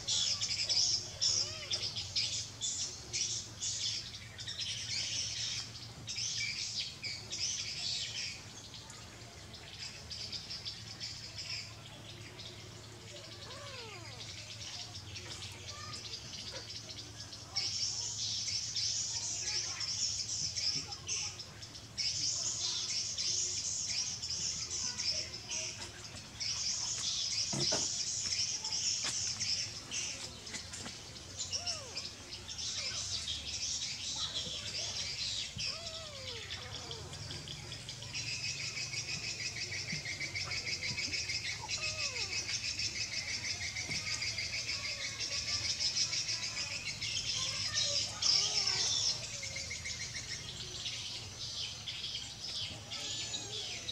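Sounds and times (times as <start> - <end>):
birds and insects chirping: 0.0 - 53.9.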